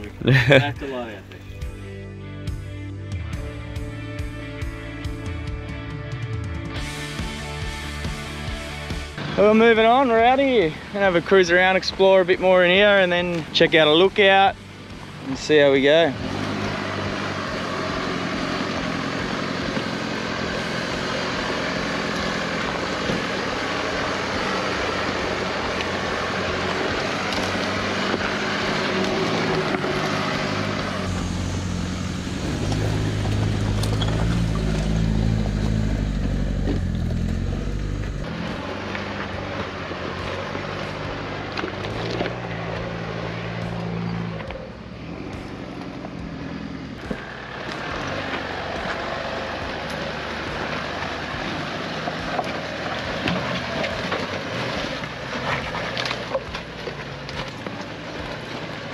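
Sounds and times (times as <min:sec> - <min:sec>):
tyre and road noise: 0:00.0 - 0:01.8, 0:03.3 - 0:58.9
low engine note: 0:00.0 - 0:58.9.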